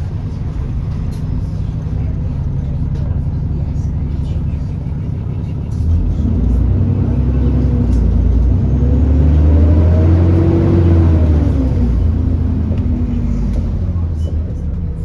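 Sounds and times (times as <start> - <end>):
bus engine pulling with whine: 0.0 - 15.0.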